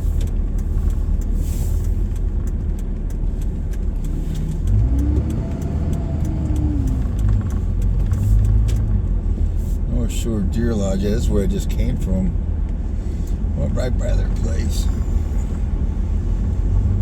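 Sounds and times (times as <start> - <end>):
engine and road rumble in cabin: 0.0 - 17.0
light ticks: 0.0 - 17.0.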